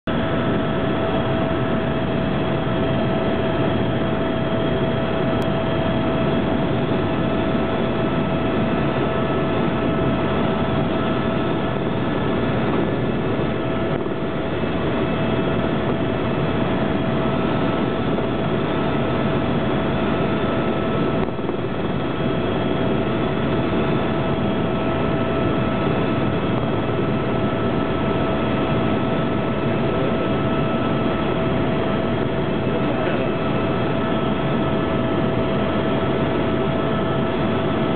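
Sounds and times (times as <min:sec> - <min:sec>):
helicopter rotor and engine drone: 0:00.0 - 0:37.9
helicopter whine: 0:00.1 - 0:37.9.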